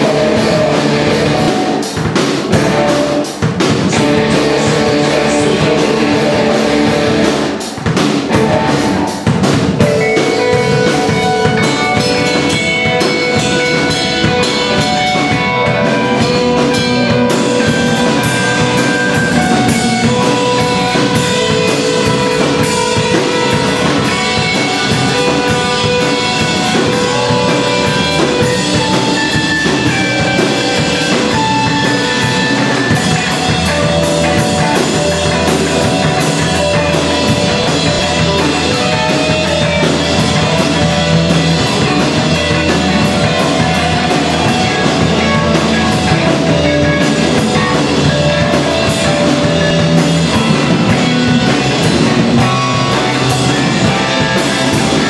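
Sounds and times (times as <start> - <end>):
bass guitar notes: 0.0 - 55.0
rock band playing: 0.0 - 55.0.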